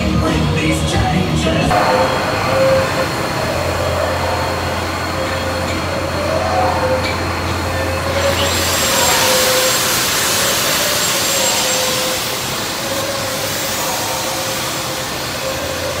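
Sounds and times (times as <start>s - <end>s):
welding arc hissing: 1.7s - 16.0s.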